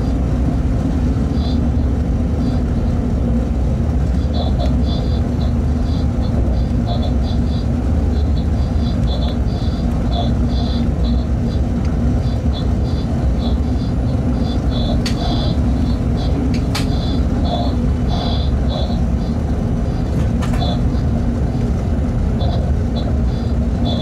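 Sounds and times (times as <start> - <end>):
constant hum: 0.0 - 24.0
freight train rumble: 0.0 - 24.0.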